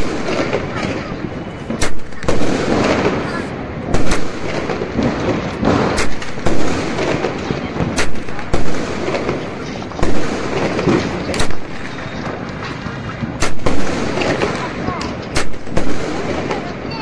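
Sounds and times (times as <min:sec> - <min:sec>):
fireworks bangs: 0:00.0 - 0:17.0
fireworks crackle: 0:00.0 - 0:17.0.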